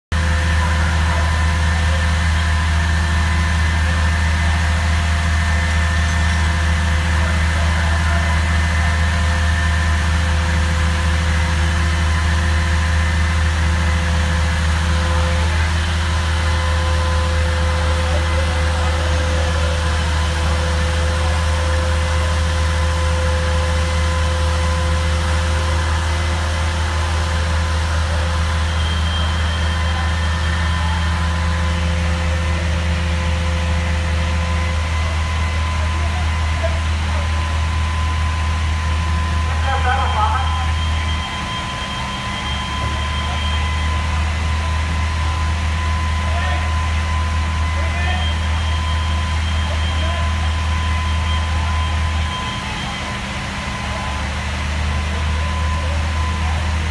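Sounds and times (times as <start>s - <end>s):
fire truck diesel engine droning: 0.0s - 56.9s.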